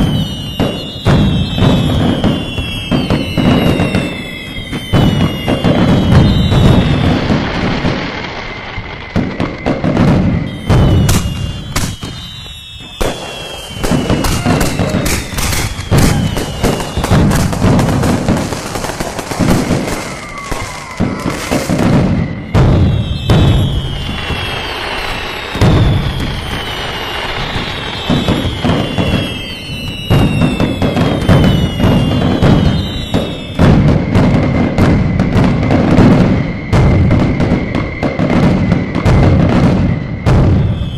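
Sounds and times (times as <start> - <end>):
fireworks booming and crackling: 0.0 - 40.9
whistling firework shells: 0.0 - 40.9.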